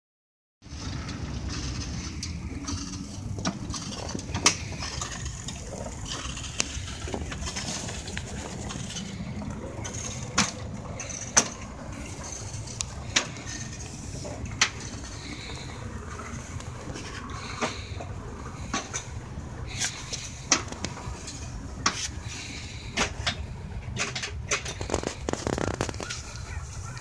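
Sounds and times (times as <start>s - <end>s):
wheels rumbling on rail: 0.6s - 27.0s.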